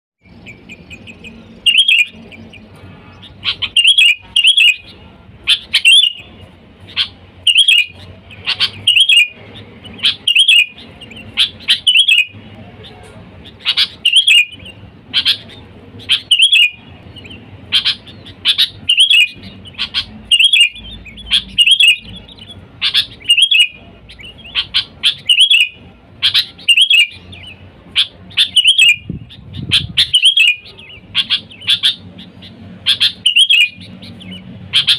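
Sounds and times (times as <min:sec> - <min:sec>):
bulbul chirping: 0:00.2 - 0:34.9.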